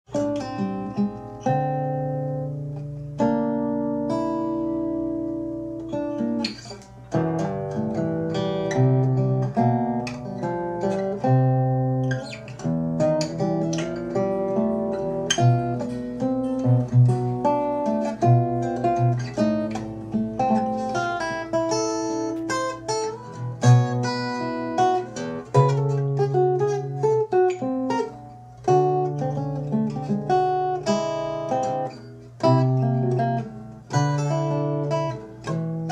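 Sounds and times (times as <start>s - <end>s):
acoustic guitar music: 0.1s - 35.9s.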